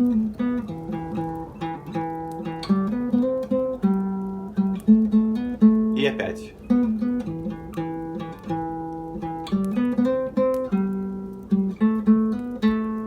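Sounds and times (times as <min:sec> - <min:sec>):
classical guitar melody: 0:00.0 - 0:13.0.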